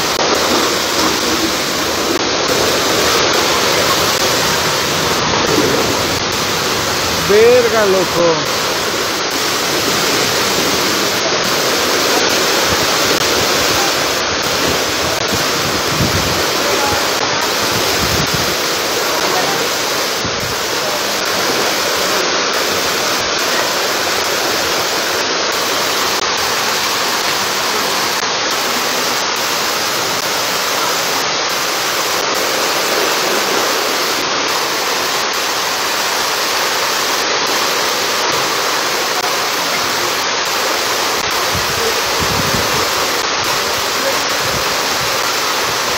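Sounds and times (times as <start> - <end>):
floodwater rushing: 0.0 - 45.9
heavy rain hissing: 0.0 - 45.9.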